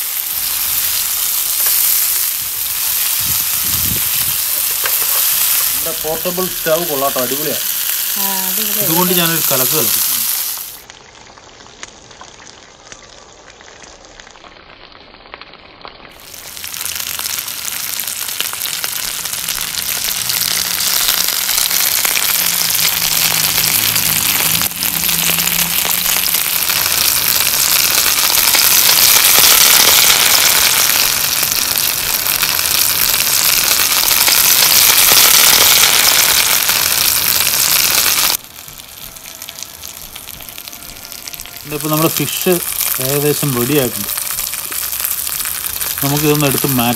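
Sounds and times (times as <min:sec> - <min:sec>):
fish sizzling in hot oil: 0:00.0 - 0:46.9.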